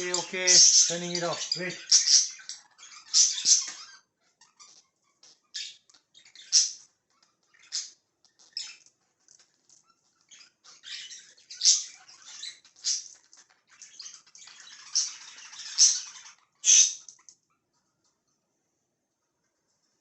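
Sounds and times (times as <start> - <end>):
budgerigars chirping and squawking: 0.0 - 18.3.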